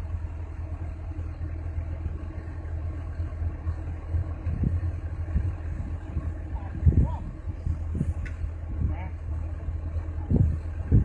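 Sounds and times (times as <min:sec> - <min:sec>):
diesel engine throbbing: 0:00.0 - 0:11.0.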